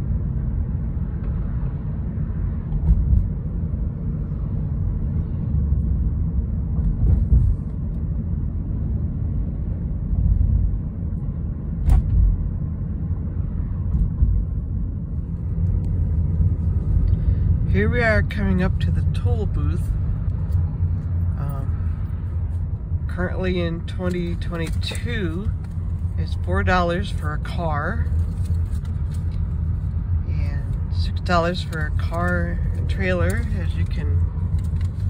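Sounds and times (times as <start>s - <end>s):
car road and tyre noise: 0.0s - 35.0s.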